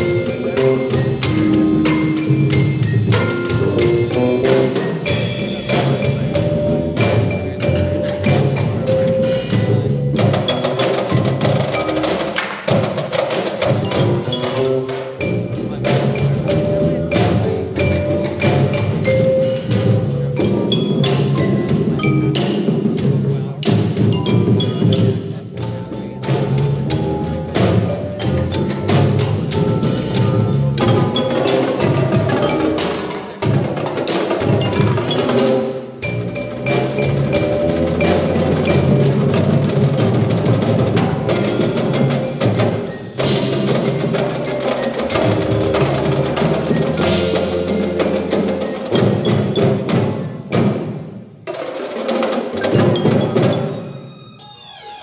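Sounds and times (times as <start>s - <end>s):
bass drums: 0.0s - 51.1s
snare drums: 0.0s - 53.9s
marimbas: 0.0s - 55.0s
tenor drums: 0.0s - 55.0s.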